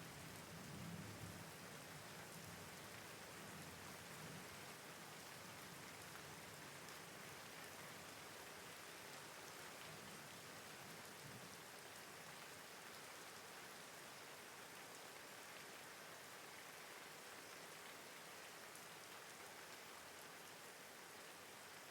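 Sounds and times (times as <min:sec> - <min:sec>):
soft rainfall hiss: 0:00.0 - 0:21.9.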